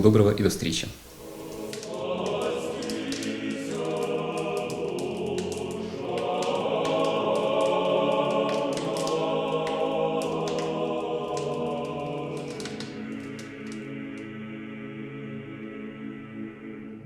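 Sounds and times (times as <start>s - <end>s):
choir singing sustained chords: 1.1s - 17.0s.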